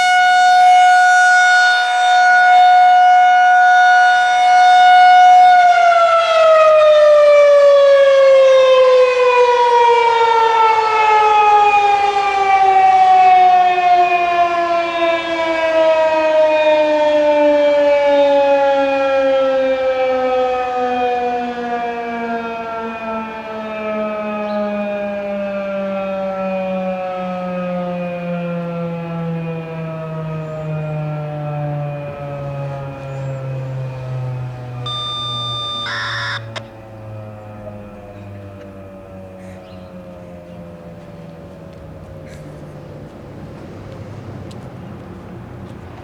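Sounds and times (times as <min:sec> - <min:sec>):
warning siren winding down: 0:00.0 - 0:40.2.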